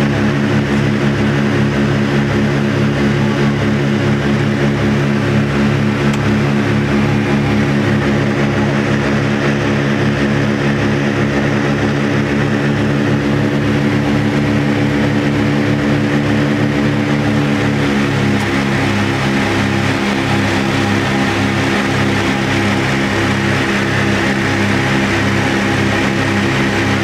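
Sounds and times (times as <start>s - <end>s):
propeller engines droning: 0.0s - 27.0s.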